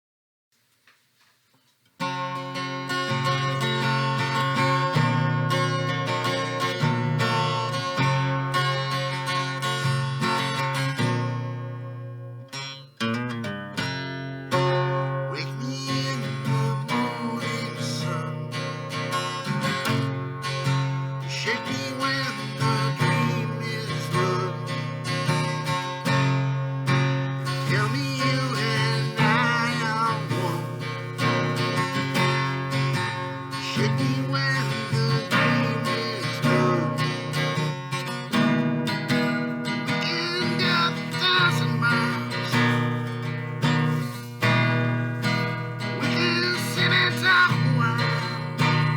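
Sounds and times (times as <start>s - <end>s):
acoustic guitar strumming chords: 2.0s - 48.9s.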